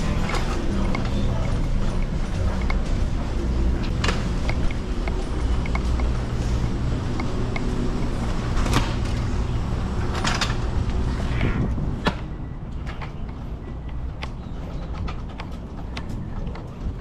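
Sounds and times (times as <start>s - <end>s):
truck engine rumbling: 0.0s - 14.8s.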